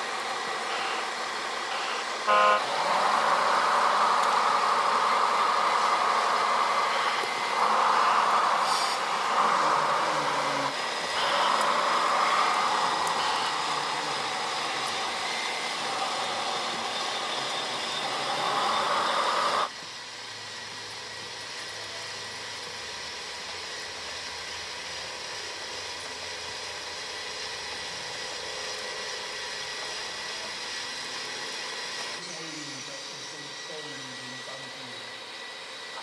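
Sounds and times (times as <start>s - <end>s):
model truck motor whirring: 0.0s - 35.2s
model machines whirring: 0.0s - 36.0s.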